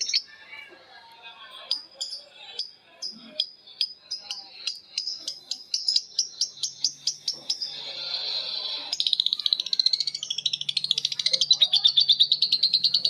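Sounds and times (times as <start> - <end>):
lovebird chattering: 1.6 - 13.0.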